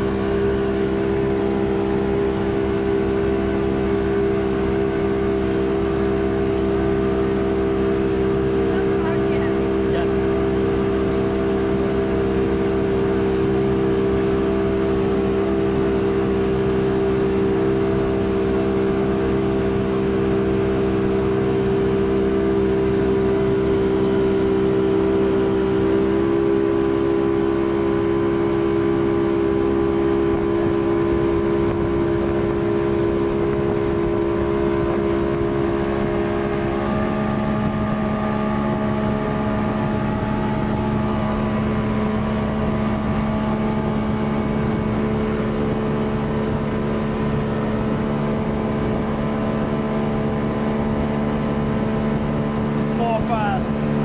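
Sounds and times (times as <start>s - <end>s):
speedboat engine running: 0.0s - 54.0s
water rushing in wake: 0.0s - 54.0s.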